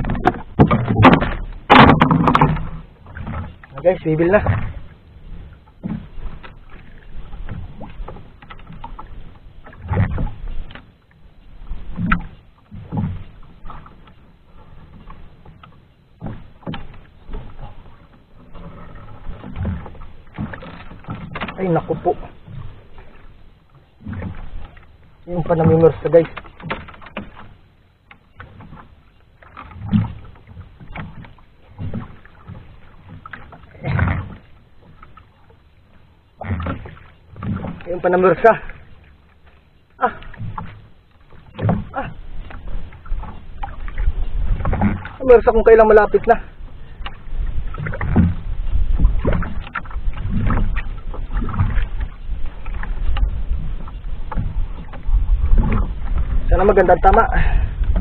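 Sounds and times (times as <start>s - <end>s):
low knocks on boat: 0.0s - 10.9s, 11.6s - 37.9s, 39.5s - 45.8s, 46.7s - 58.0s
water lapping against boat hull: 0.0s - 58.0s.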